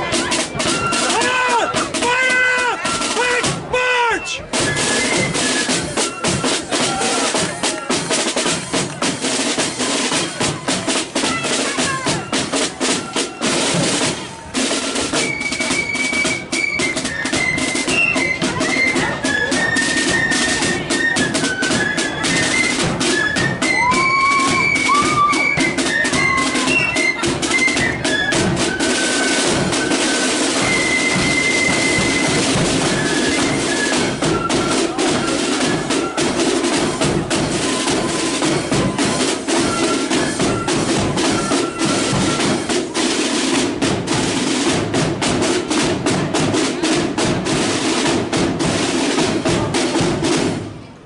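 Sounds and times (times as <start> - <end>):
snare drum roll: 0.0 - 3.8, 4.4 - 50.9
flutes playing melody: 0.0 - 44.7.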